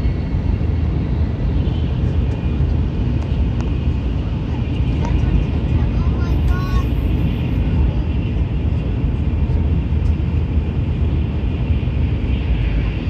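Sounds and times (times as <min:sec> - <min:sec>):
high-speed train rumble inside car: 0:00.0 - 0:13.0.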